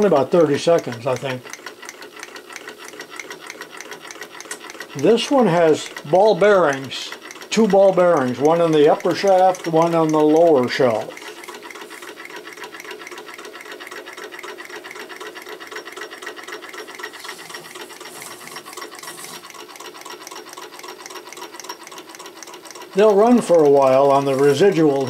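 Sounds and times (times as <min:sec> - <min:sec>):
small engine ticking rhythmically: 0:00.0 - 0:25.0.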